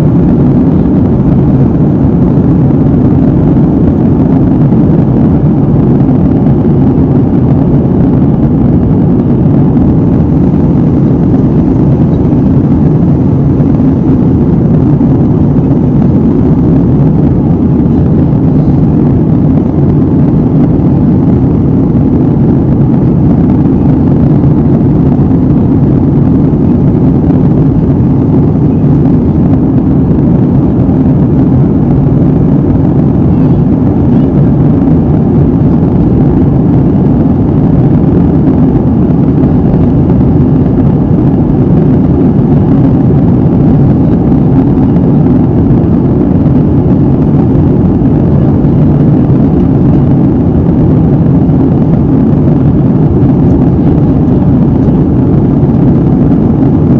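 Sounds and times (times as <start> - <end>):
airliner cabin rumble: 0.0 - 56.9.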